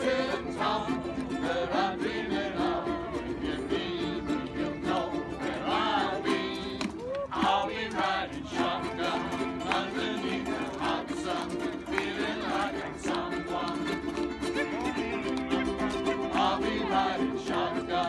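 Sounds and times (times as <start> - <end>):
ukuleles strumming chords: 0.0 - 18.0
voices singing: 0.0 - 18.0.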